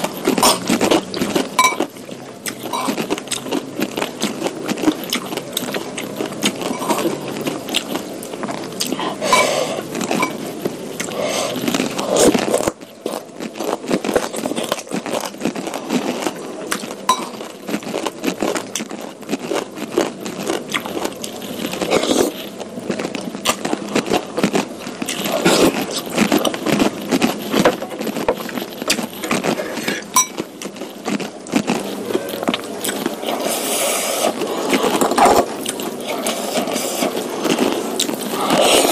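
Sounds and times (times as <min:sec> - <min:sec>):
wet chewing and slurping: 0:00.0 - 0:38.9.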